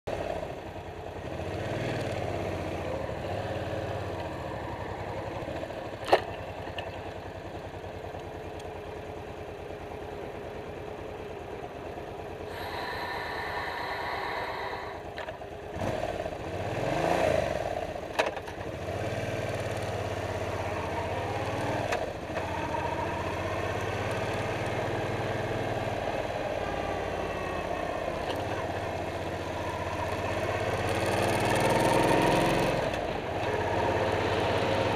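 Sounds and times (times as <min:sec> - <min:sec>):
motorcycle engine running: 0:00.1 - 0:34.9
wind and road noise: 0:00.1 - 0:34.9.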